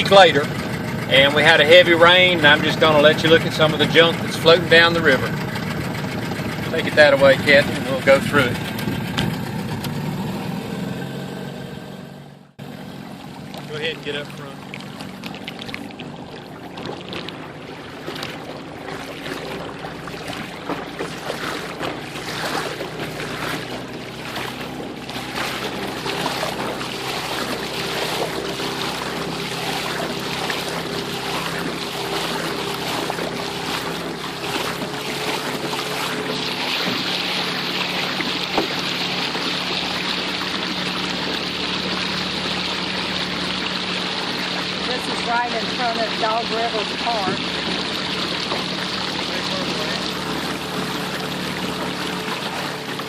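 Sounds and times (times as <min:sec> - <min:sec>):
boat motor running: 0:00.0 - 0:53.0
water rushing: 0:00.0 - 0:53.0.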